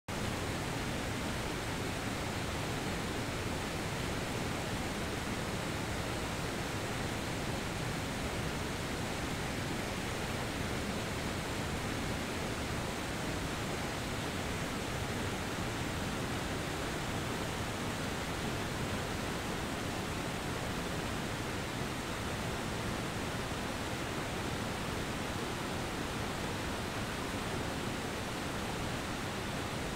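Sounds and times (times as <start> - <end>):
river rushing over rock ledges: 0.1 - 29.9.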